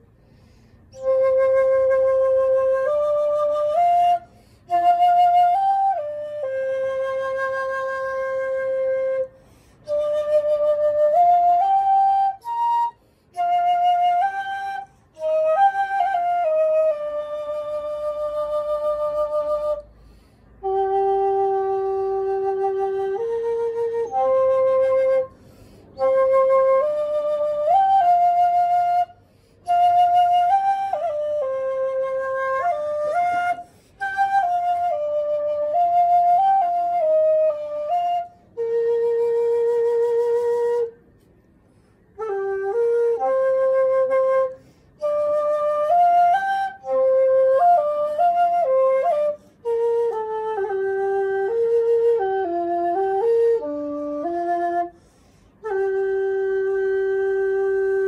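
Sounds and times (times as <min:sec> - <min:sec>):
bamboo flute melody: 0:00.0 - 0:58.0.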